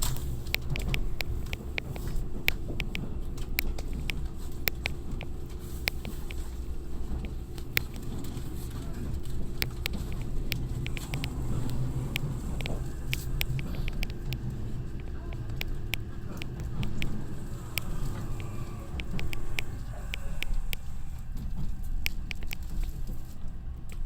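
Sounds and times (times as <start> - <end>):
sharp clicks and ticks: 0.0 - 23.2
train interior low rumble: 0.0 - 24.0.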